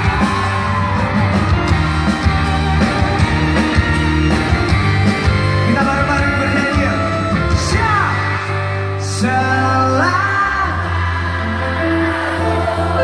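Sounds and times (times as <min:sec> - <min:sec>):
live pop-rock band playing: 0:00.0 - 0:13.0.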